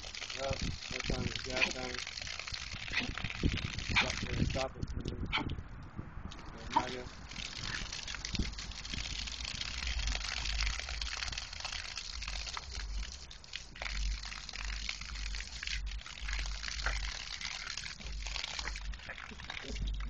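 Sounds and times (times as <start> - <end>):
water spraying from hose: 0.0 - 4.8, 6.3 - 20.0
water splashing: 0.0 - 5.6, 6.2 - 20.0
low rumbles: 0.0 - 20.0.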